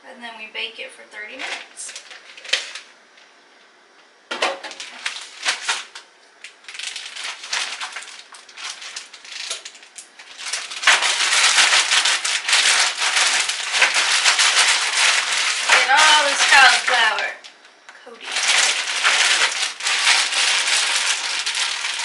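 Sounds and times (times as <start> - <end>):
plastic bag crinkling: 1.3 - 2.9, 4.4 - 22.0.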